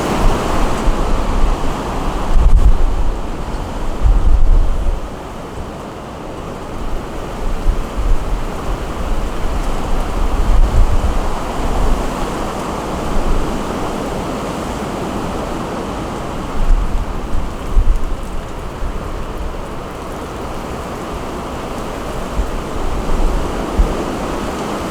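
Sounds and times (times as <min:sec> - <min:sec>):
steady rain falling: 0:00.0 - 0:24.9
wind gusts on microphone: 0:00.0 - 0:24.9.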